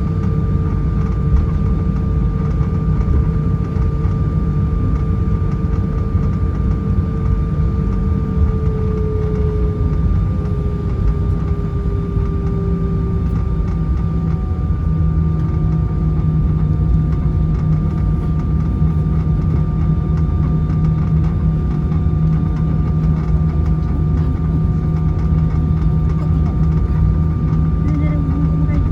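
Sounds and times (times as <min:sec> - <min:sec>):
jet engines idling: 0:00.0 - 0:28.9
thin steady whine: 0:00.0 - 0:28.9.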